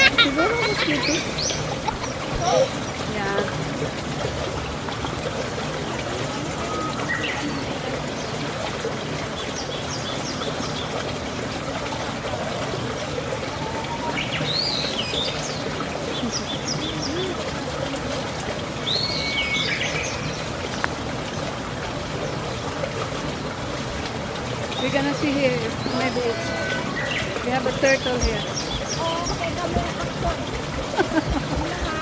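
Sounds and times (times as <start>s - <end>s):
birds chirping: 0.0s - 32.0s
trickle of running water: 0.0s - 32.0s.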